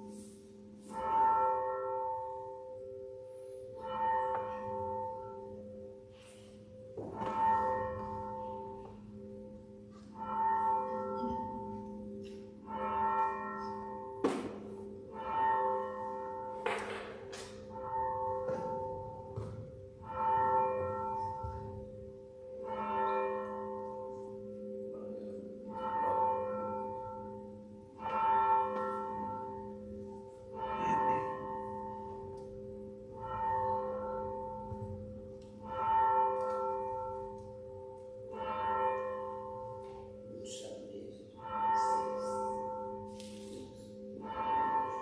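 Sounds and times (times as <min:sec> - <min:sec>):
church bell tolling: 0:00.0 - 0:45.0.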